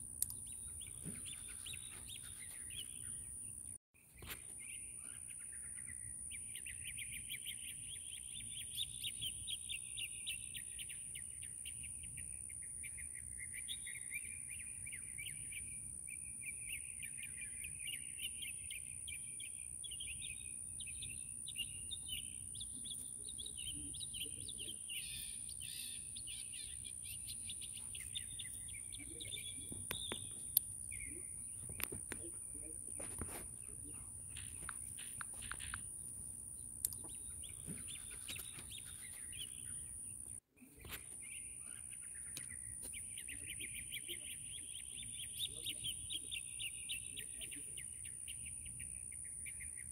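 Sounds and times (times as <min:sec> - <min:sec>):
birds chirping and twittering: 0:00.0 - 0:49.9.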